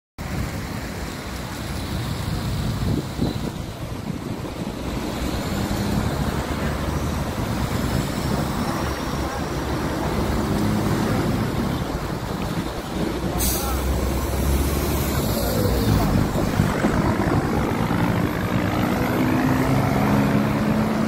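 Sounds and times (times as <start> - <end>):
road traffic rumble: 0.2 - 21.0.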